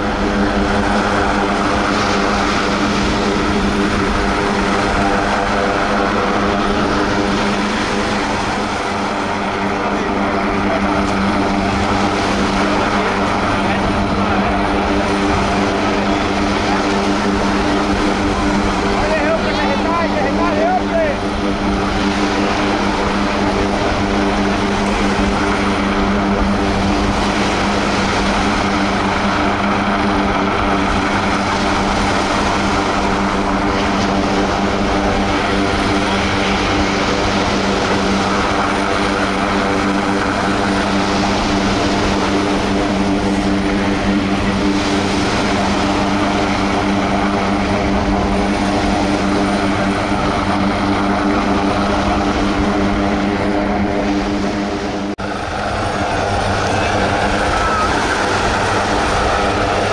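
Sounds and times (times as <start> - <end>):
propeller aircraft engine running: 0.0 - 59.9.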